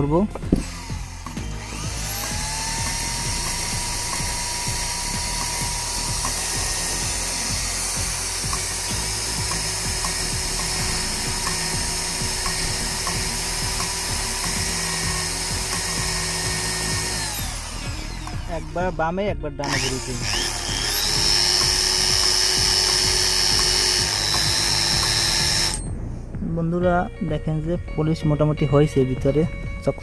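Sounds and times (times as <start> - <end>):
electric drill spinning: 0.0 - 18.9, 19.6 - 25.9.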